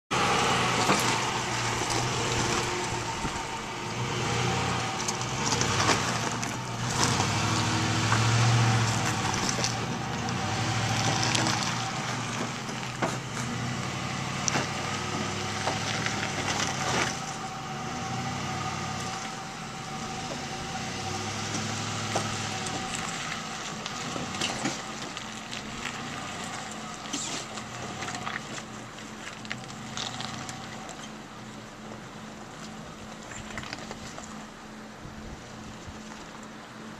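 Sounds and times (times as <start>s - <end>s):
truck engine at low speed: 0.1s - 36.9s
tyres crunching over stones: 0.3s - 17.7s, 20.1s - 34.8s.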